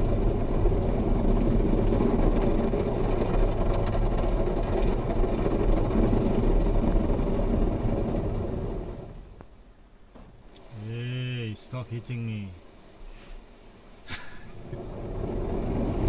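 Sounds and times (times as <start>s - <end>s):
water spraying on car: 0.0s - 9.4s, 10.0s - 16.0s.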